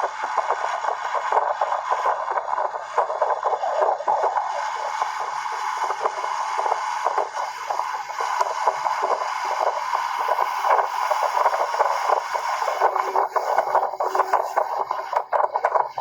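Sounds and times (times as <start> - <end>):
faint motor hum: 0.0 - 16.0.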